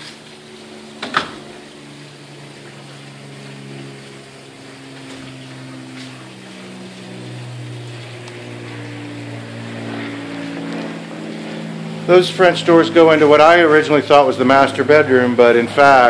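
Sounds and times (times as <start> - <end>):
constant hiss: 0.0 - 16.0
motor humming: 0.0 - 16.0.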